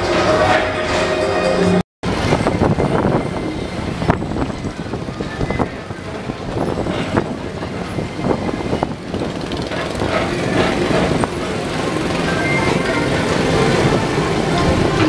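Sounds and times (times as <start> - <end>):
ride car rumbling on track: 0.0 - 15.0.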